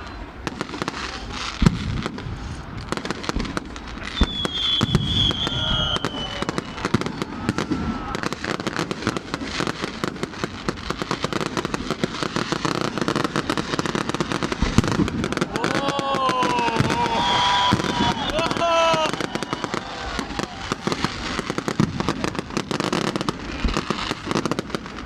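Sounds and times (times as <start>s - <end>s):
firework whistle: 0.0s - 25.0s
fireworks crackling and banging: 0.0s - 25.0s.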